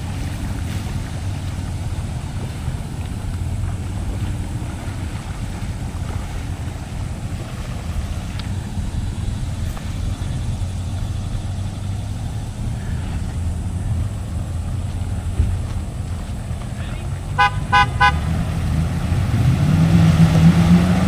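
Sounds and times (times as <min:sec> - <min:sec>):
vehicle engine rumbling: 0:00.0 - 0:21.0
wind noise on microphone: 0:00.0 - 0:21.0.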